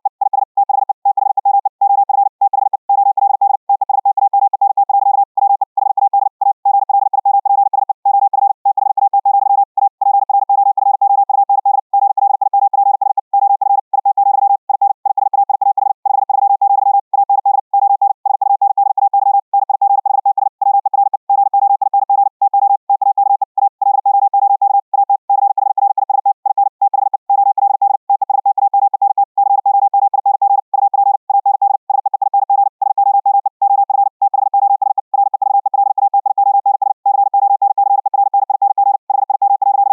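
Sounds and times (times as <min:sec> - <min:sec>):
high-speed morse code tone: 0:00.0 - 0:39.9.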